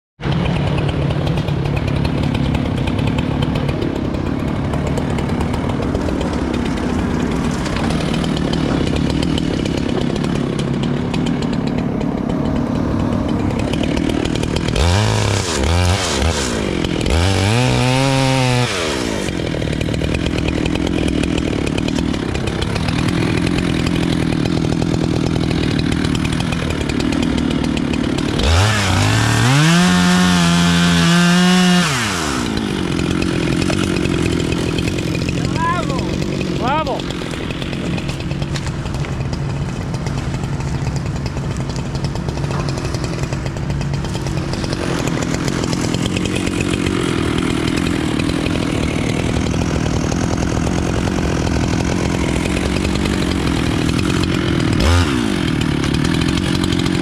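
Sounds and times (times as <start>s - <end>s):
chainsaw cutting into tree: 0.2s - 57.0s.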